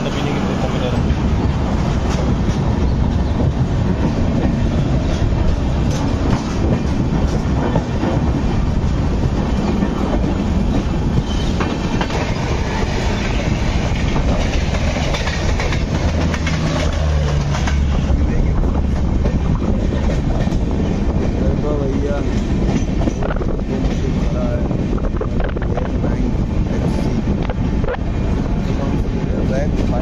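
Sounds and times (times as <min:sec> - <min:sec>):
clickety-clack over rail joints: 0:00.0 - 0:30.0
train passing alongside: 0:00.0 - 0:30.0
train wheels rumbling on rails: 0:00.0 - 0:30.0.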